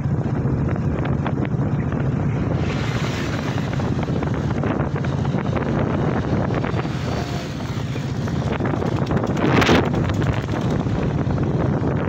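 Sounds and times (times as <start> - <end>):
motorcycle engine running: 0.0 - 12.0
road noise: 0.0 - 12.0
wind buffeting microphone: 0.0 - 12.0.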